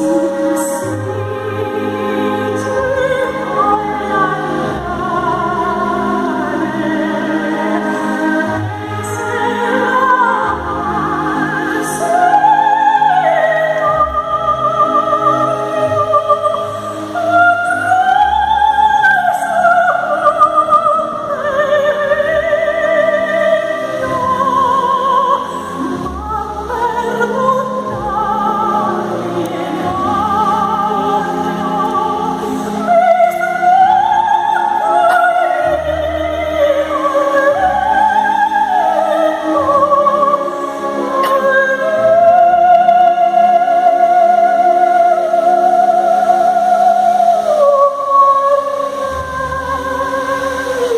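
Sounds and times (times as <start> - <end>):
operatic voice singing: 0.0 - 50.9
orchestral accompaniment: 0.0 - 50.9.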